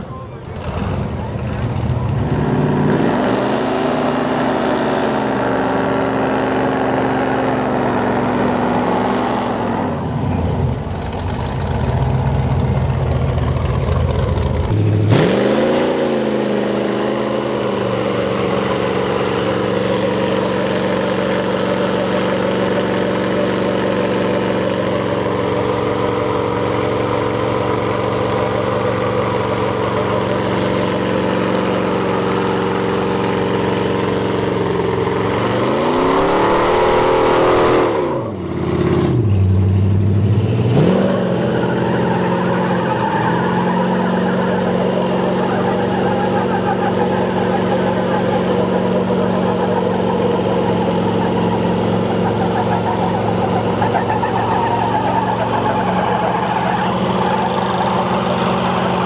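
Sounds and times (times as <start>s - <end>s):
truck engines revving hard: 0.0s - 59.0s.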